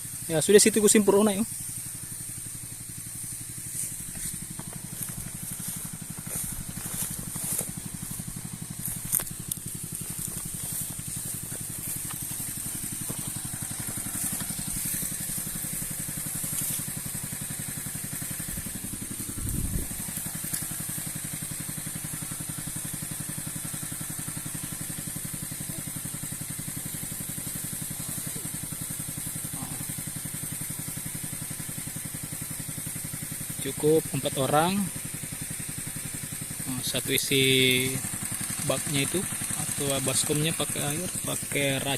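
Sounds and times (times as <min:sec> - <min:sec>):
power sprayer engine running: 0:00.0 - 0:41.9.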